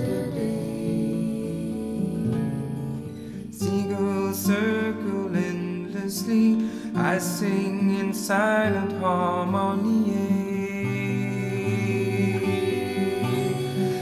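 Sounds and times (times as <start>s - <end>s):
person singing: 0.0s - 14.0s
strummed acoustic guitar: 0.0s - 14.0s.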